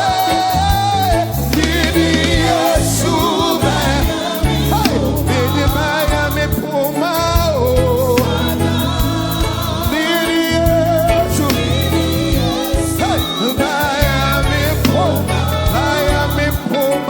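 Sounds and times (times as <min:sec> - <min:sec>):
band with bass and drums: 0:00.0 - 0:17.0
choir singing gospel: 0:00.0 - 0:17.0.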